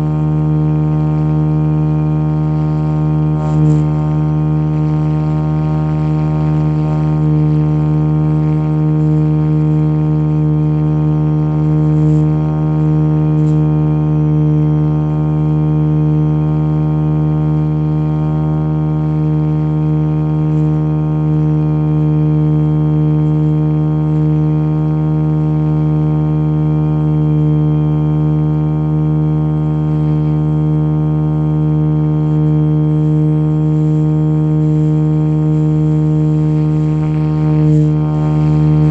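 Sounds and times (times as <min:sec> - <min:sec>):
model helicopter droning hum: 0:00.0 - 0:38.9.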